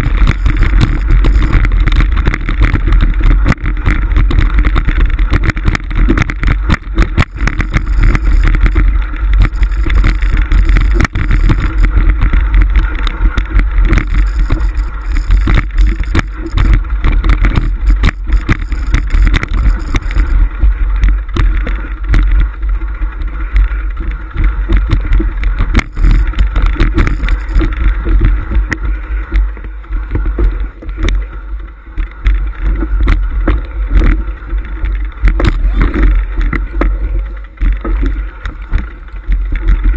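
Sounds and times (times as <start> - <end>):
bike rattling over stones: 0.0 - 39.9
wind rumble on microphone: 0.0 - 39.9.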